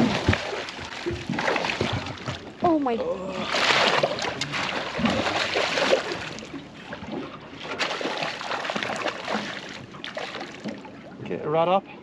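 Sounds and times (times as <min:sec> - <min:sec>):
water splashing and churning: 0:00.0 - 0:12.0.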